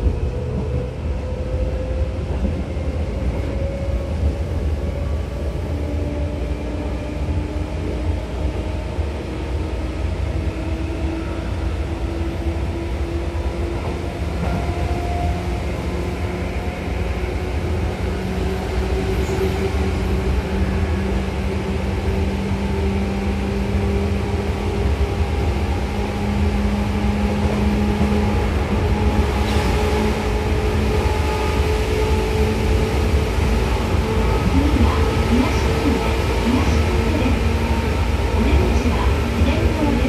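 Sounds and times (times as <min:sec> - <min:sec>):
electric train rumbling: 0:00.0 - 0:40.0.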